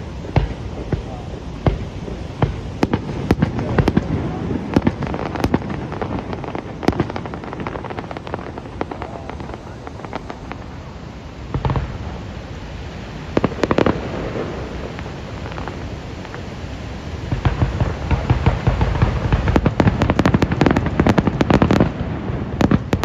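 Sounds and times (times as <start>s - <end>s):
fireworks bangs: 0.0s - 23.0s
fireworks crackling and popping: 0.0s - 23.0s
steady rushing noise: 0.0s - 23.0s.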